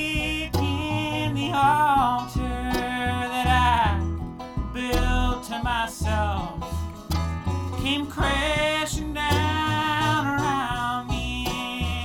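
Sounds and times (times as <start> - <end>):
person singing: 0.0 - 4.0, 4.8 - 6.6, 7.8 - 12.0
plucked guitar: 0.0 - 12.0
sliding melody instrument: 0.0 - 12.0
stepping bass line: 0.0 - 12.0.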